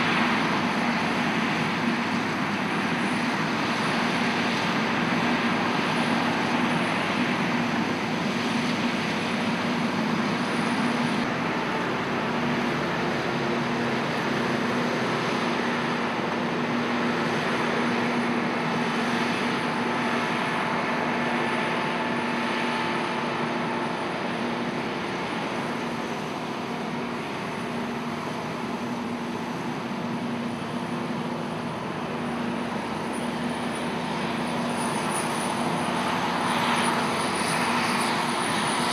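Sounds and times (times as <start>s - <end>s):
diesel harvest machinery drone: 0.0s - 38.9s.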